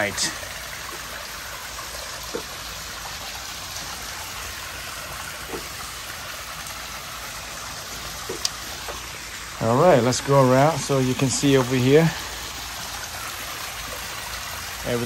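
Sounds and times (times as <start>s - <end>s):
waterfall splashing: 0.0s - 15.0s.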